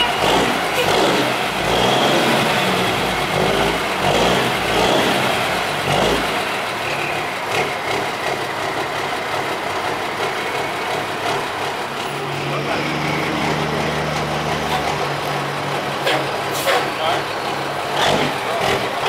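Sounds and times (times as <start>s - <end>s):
diesel truck engine revving: 0.0s - 19.0s.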